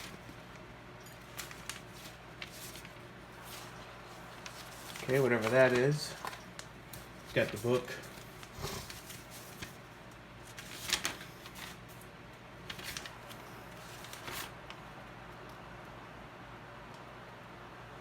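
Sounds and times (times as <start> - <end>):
paper and cardboard rustling: 0.0 - 14.6.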